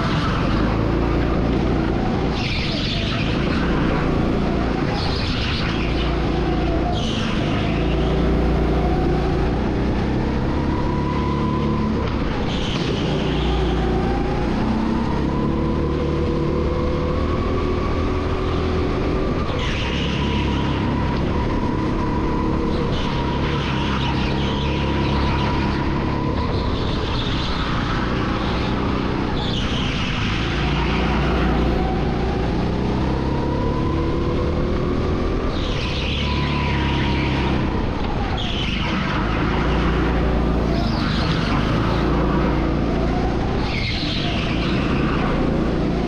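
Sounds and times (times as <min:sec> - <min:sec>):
go-kart engine revving: 0:00.0 - 0:46.0.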